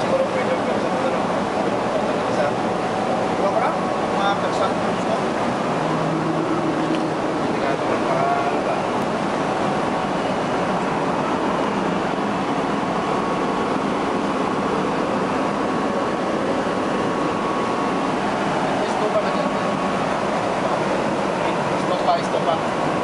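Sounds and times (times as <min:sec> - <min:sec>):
faint steady whine: 0:00.0 - 0:23.0.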